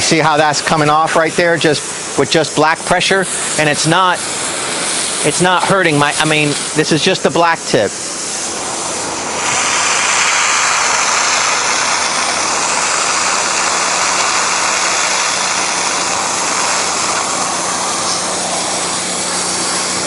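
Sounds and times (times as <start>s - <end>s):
pressure washer spray hiss: 0.0s - 20.0s.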